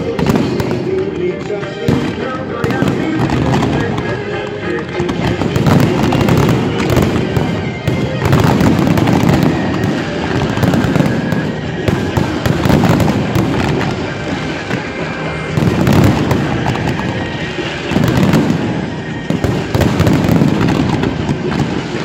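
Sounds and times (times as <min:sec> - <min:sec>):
heavy firework booms: 0:00.0 - 0:01.0, 0:01.9 - 0:04.3, 0:05.0 - 0:22.0
fireworks bangs and crackles: 0:00.0 - 0:22.0.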